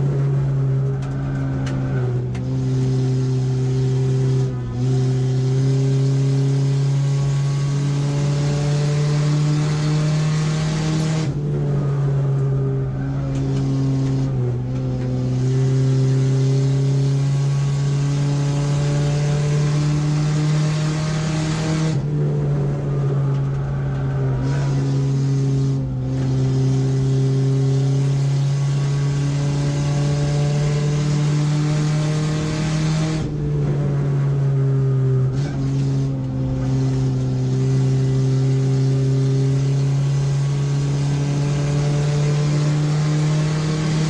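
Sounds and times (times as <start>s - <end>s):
race car engine droning: 0.0s - 44.0s.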